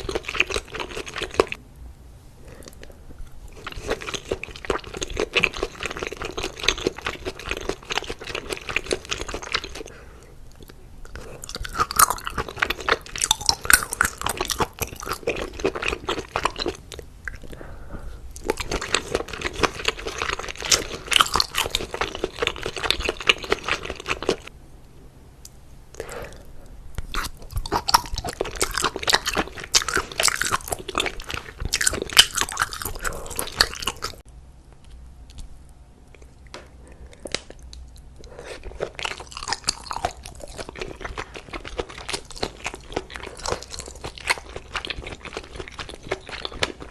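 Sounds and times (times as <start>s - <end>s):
person chewing and crunching food: 0.0s - 1.6s, 2.4s - 24.5s, 25.9s - 46.9s.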